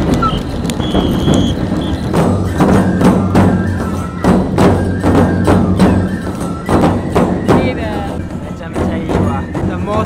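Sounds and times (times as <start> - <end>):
taiko drums: 0.0 - 10.0
held flute notes: 0.1 - 9.6.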